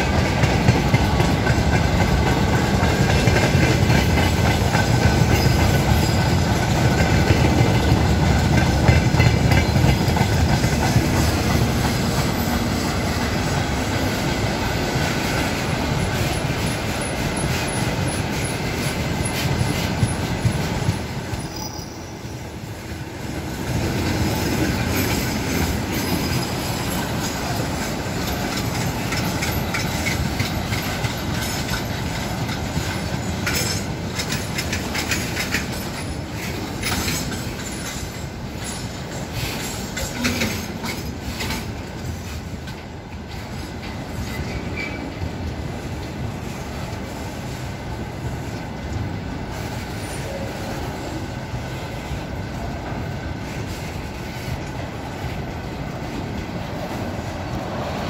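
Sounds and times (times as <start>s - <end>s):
freight train wheels rumbling: 0.0s - 58.0s
wheels clicking on rails: 0.0s - 58.0s.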